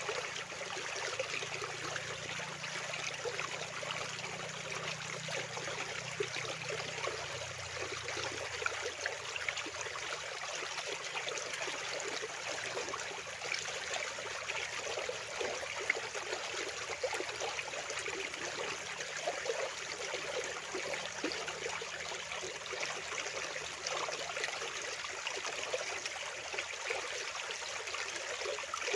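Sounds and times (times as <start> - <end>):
fast-flowing water rushing: 0.0 - 28.9.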